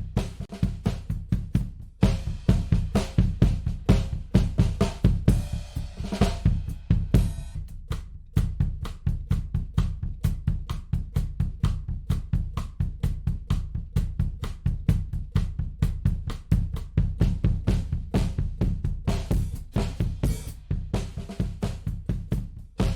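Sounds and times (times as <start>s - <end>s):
drum kit groove: 0.0s - 22.9s.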